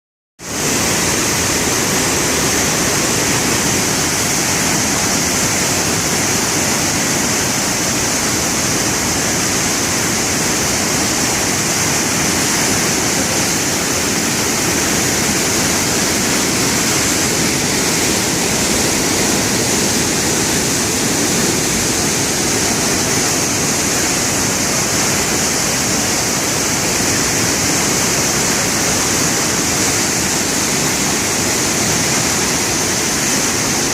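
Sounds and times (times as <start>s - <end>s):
floodwater rushing: 0.4s - 33.9s.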